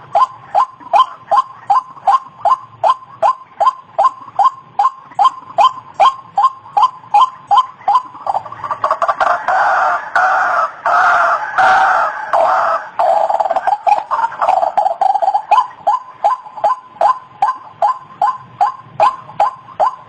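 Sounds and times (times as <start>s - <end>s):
waterhen harsh calls: 0.0s - 20.0s.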